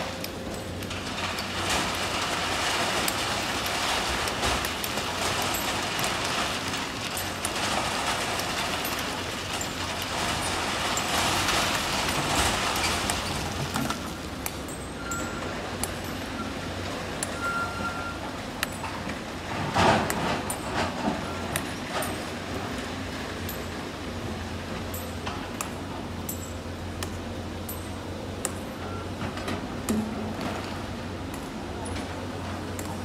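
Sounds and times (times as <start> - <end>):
diesel excavator engines: 0.0 - 33.0.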